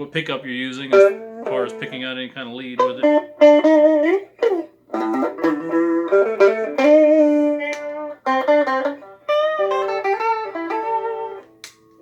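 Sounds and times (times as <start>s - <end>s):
electric guitar lead line: 0.4s - 12.0s.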